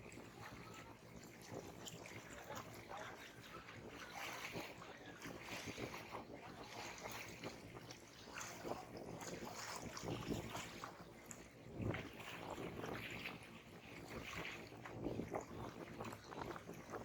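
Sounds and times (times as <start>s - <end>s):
small waves lapping on shore: 0.0s - 17.0s.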